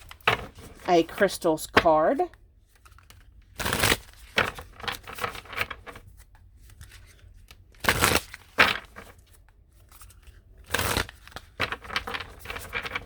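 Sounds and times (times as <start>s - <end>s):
cards being shuffled: 0.0s - 13.0s.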